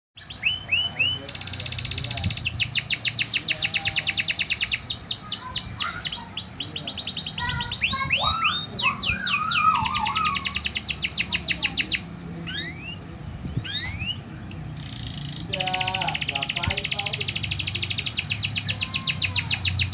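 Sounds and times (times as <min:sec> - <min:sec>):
sparrow chirping: 0:00.2 - 0:19.9.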